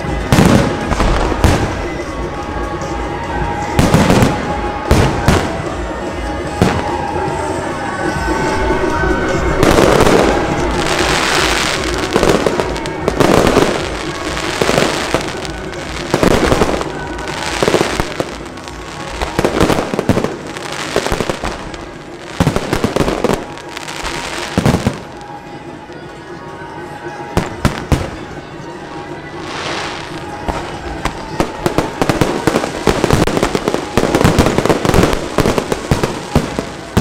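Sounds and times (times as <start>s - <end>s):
fireworks crackling: 0.0s - 37.0s.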